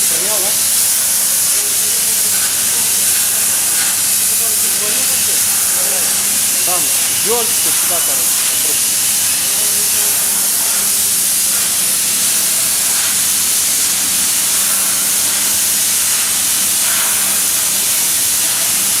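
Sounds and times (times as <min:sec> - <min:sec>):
plasma cutter hissing: 0:00.0 - 0:19.0.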